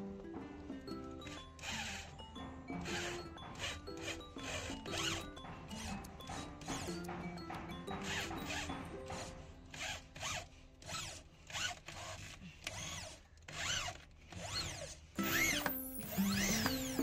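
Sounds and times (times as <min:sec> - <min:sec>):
electric drill whining into wood: 0:00.6 - 0:17.0.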